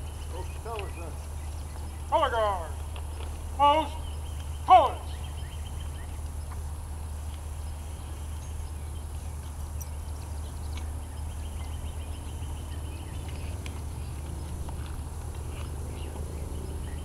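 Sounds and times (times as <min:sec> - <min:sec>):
small birds chirping: 0:00.0 - 0:17.0
wind rumble on microphone: 0:02.8 - 0:17.0.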